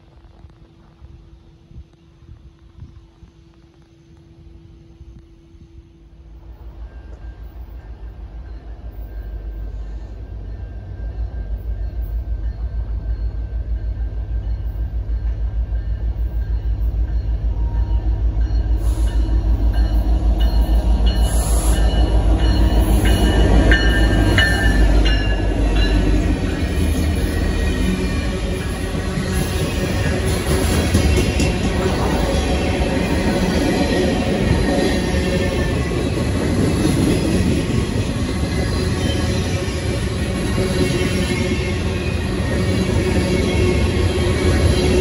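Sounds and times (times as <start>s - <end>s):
diesel locomotive engine throb: 0.0s - 45.0s
wheels squealing on rails: 0.1s - 45.0s.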